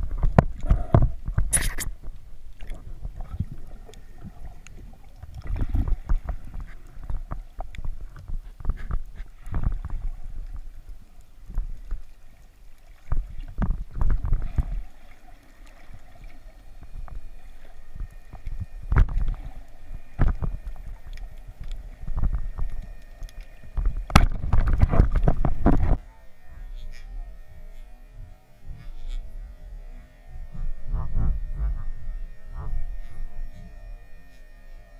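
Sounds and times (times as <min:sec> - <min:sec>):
underwater low rumbles: 0:00.0 - 0:34.9.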